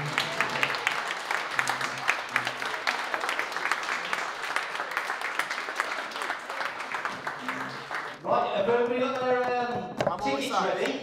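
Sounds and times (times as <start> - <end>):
small audience applauding: 0.0 - 9.8.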